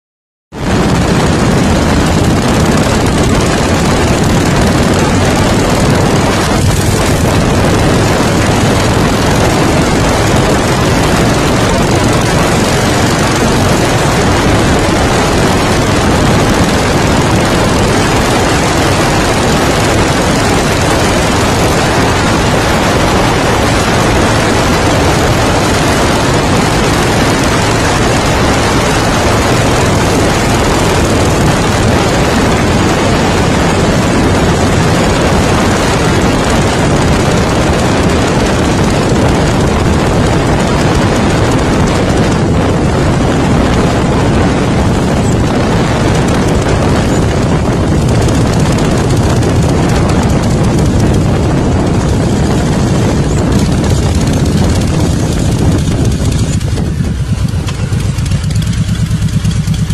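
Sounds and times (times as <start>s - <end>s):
motorcycle engine: 0.5s - 59.9s
wind rush on microphone: 0.5s - 59.9s.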